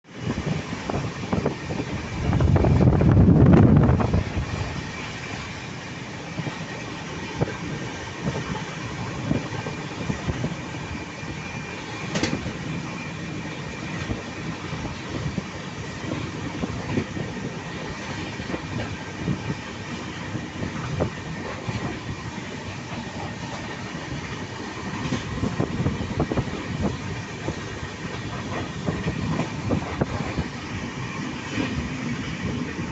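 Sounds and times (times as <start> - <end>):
train rumbling: 0.0 - 32.9.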